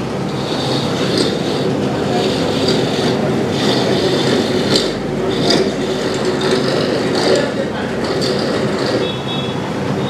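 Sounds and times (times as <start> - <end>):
electric grinding mill running: 0.0 - 10.0
scraping powder from steel chute: 0.2 - 9.2.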